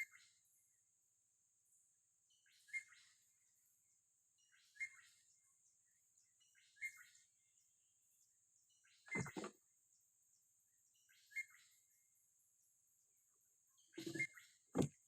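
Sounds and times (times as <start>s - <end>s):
bird chirping faintly: 0.0s - 15.0s.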